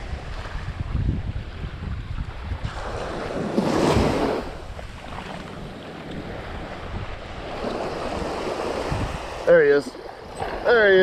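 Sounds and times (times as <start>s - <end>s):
surf waves washing onto beach: 0.0s - 11.0s
wind buffeting microphone: 0.0s - 11.0s.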